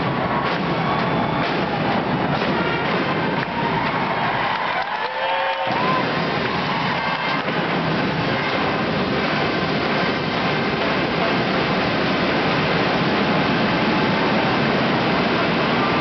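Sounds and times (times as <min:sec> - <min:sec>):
crowd cheering: 0:00.0 - 0:16.0.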